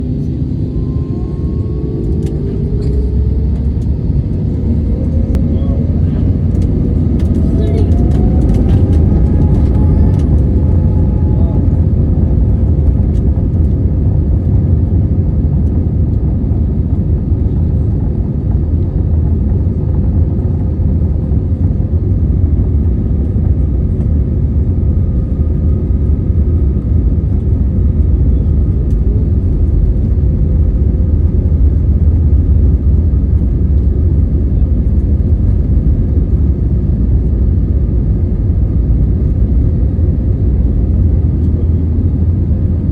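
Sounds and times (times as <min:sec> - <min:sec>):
jet engines rumbling at takeoff: 0:00.0 - 0:42.9.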